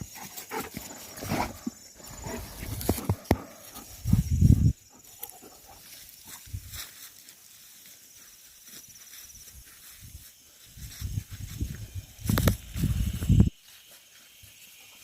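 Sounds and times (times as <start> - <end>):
rapid insect trill: 0.0 - 15.0
soft footfalls on forest floor: 0.6 - 4.0, 5.2 - 14.7.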